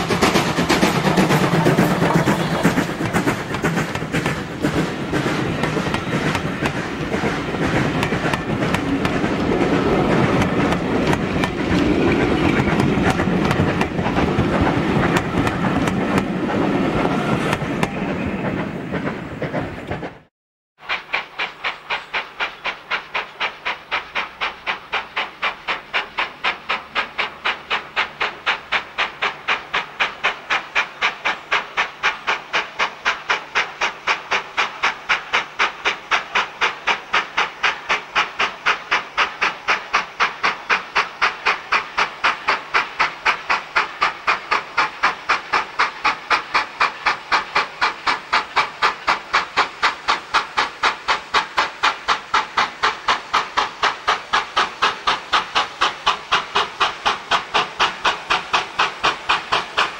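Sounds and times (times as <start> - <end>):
steam hissing: 0.0 - 20.0, 20.8 - 59.9
steam locomotive exhaust beating: 0.0 - 59.9.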